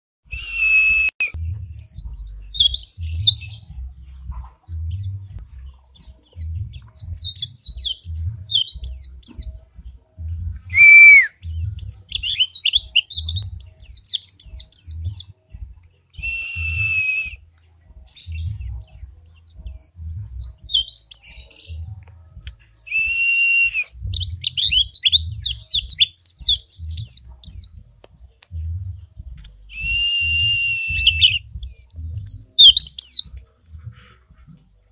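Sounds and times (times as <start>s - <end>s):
bird twittering trills: 0.4s - 34.8s.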